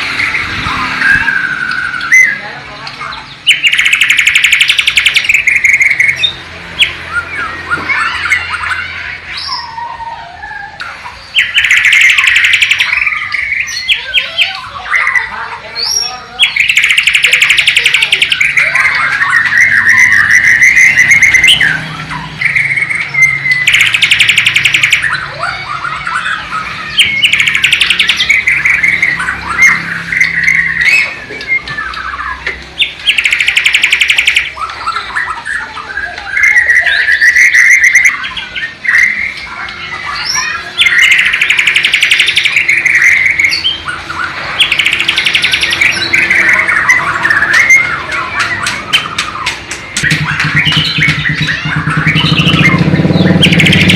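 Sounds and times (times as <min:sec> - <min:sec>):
songbird singing trills and whistles: 0:00.1 - 0:53.9.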